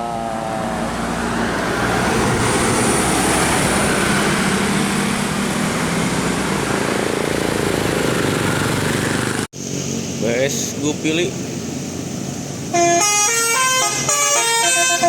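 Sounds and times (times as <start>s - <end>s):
bus engine droning: 0.0s - 15.0s
road noise: 0.0s - 15.0s.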